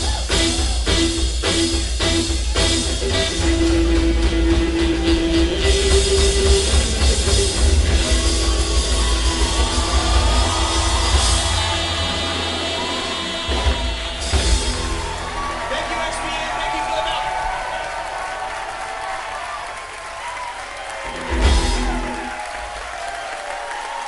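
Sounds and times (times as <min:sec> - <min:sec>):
rockabilly band playing: 0:00.0 - 0:19.1, 0:20.4 - 0:23.1.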